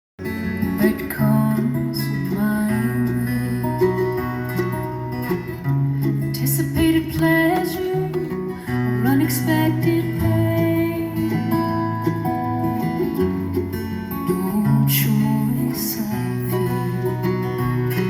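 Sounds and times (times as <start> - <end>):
acoustic guitar: 0.2 - 18.0
bluegrass band playing: 0.2 - 18.0.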